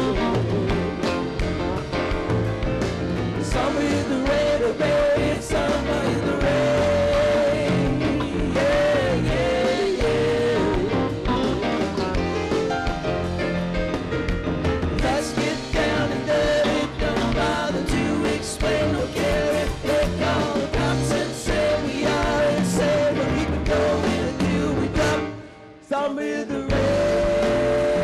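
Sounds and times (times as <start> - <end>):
live band playing: 0.0 - 25.9, 26.7 - 28.0.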